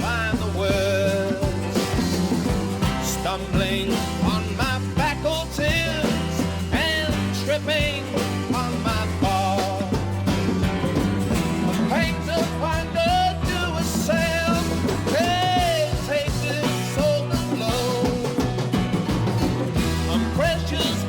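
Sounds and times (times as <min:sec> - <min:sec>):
bass line: 0:00.0 - 0:21.0
drums: 0:00.0 - 0:21.0
rock lead melody: 0:00.0 - 0:21.0.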